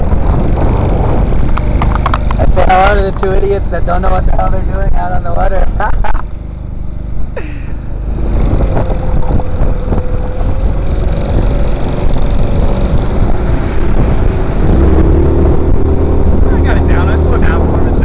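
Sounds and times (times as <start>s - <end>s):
deep rushing noise: 0.0s - 6.2s, 7.2s - 18.0s
motorboat engine whining: 0.0s - 18.0s.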